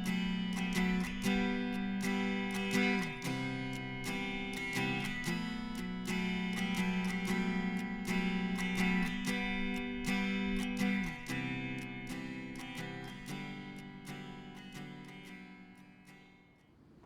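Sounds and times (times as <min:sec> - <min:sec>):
acoustic guitar strumming: 0:00.0 - 0:16.7.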